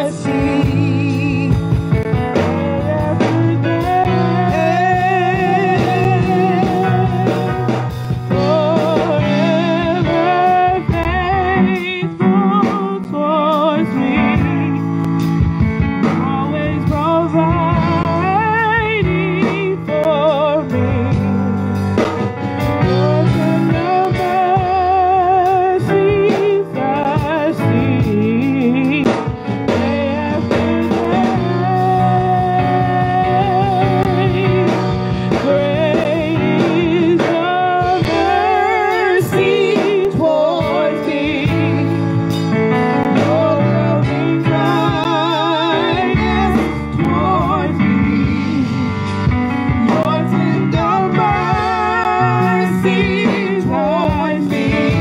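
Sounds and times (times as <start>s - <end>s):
woman singing through loudspeaker: 0.0s - 7.7s, 8.3s - 14.9s, 16.0s - 21.6s, 22.8s - 42.2s, 42.9s - 49.1s, 49.7s - 55.0s
instrumental accompaniment: 0.0s - 55.0s.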